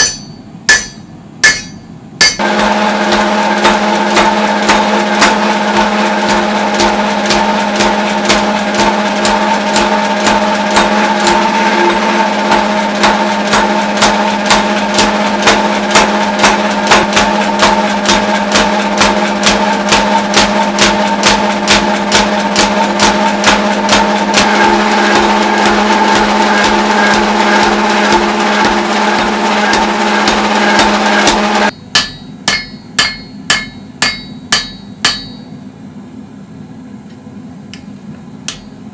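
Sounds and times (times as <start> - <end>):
hammer blows on steel: 0.0 - 35.6
constant humming drone: 0.0 - 38.9.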